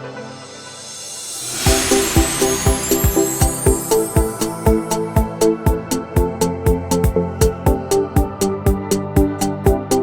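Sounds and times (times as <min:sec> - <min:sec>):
kick drum beat: 0:01.7 - 0:10.0.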